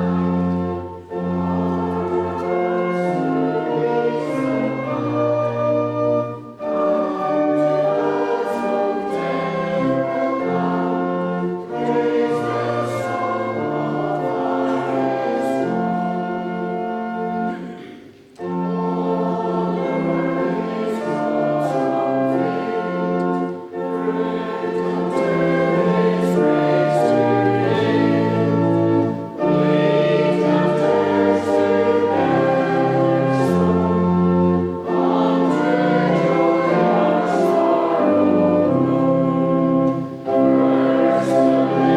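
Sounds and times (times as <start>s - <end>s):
organ chords: 0.0s - 41.9s
voices singing a hymn: 0.0s - 41.9s.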